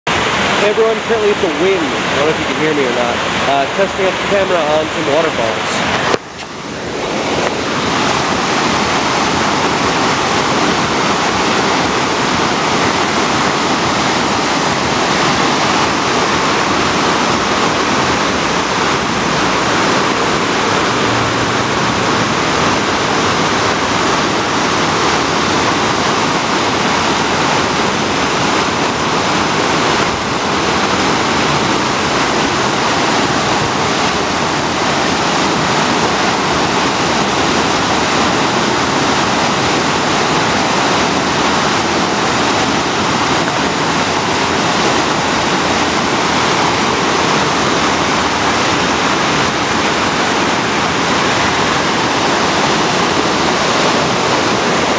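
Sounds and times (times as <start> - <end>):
waterfall rushing: 0.1 - 54.9.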